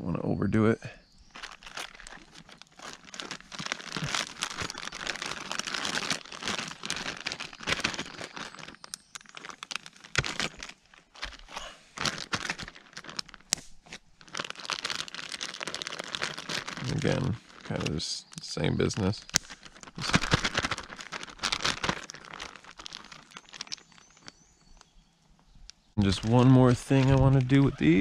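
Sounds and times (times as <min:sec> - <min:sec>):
plastic bag crinkling: 0:01.2 - 0:24.9, 0:26.0 - 0:28.0.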